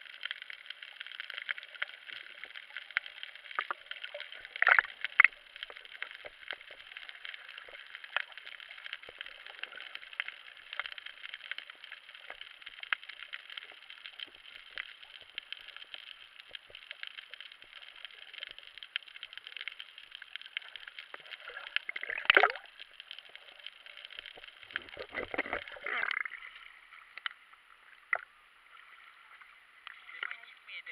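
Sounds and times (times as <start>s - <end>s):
muffled underwater crackling clicks: 0.0s - 30.9s.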